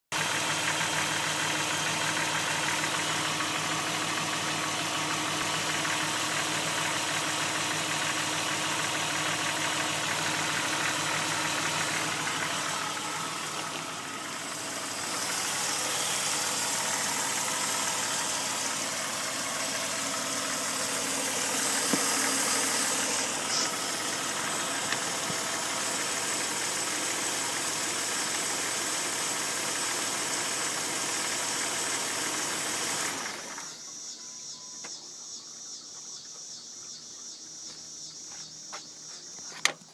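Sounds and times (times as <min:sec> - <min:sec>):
car engine idling with knocking: 0:00.1 - 0:33.8.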